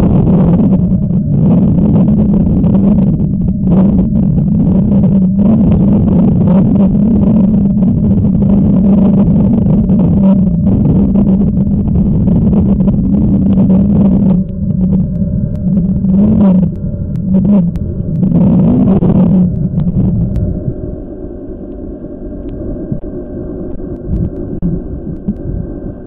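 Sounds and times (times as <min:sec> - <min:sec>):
muffled underwater rumble: 0:00.0 - 0:26.0.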